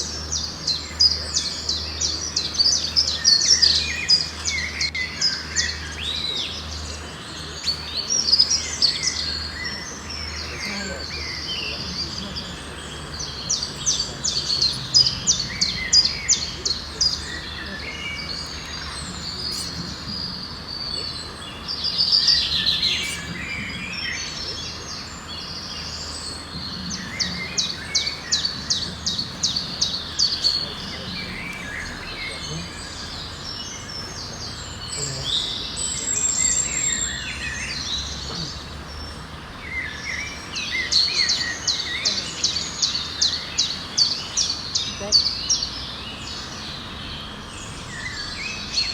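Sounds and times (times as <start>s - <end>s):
background hiss: 0.0s - 48.9s
birds singing: 0.0s - 48.9s
songbirds chirping: 0.0s - 48.9s.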